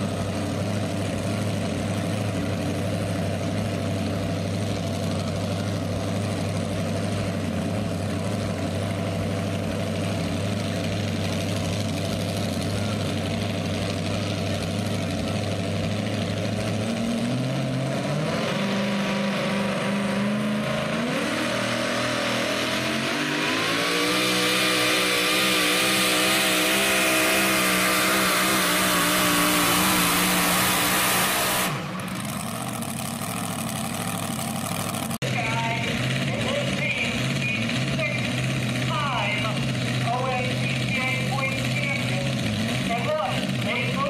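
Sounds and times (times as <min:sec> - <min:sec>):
pulling truck engine revving: 0:00.0 - 0:44.0.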